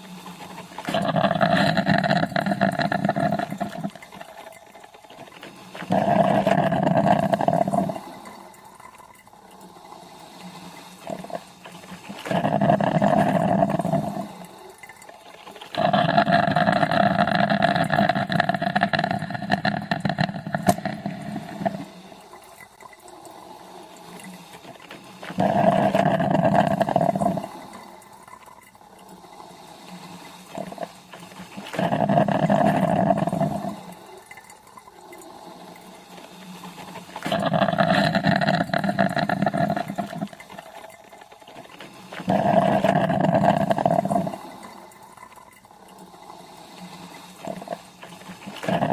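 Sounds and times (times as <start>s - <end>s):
coffee maker gurgling and sputtering: 0.0s - 48.9s
coffee maker hiss: 0.0s - 48.9s.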